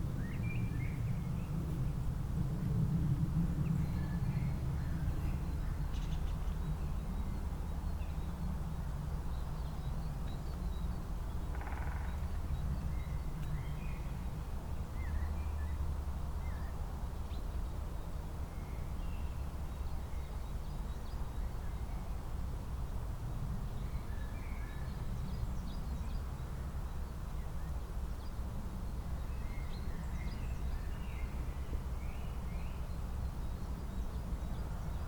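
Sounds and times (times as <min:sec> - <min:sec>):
songbirds chirping faintly: 0:03.3 - 0:35.0.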